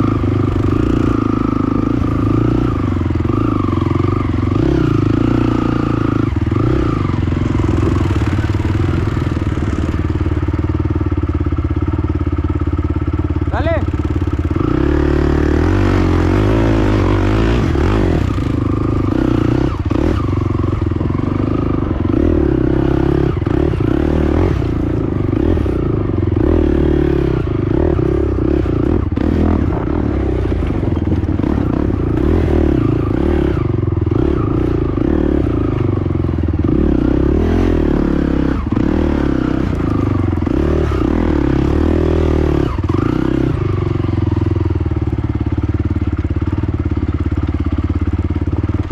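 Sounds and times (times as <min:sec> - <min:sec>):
quad engine running: 0:00.0 - 0:48.9.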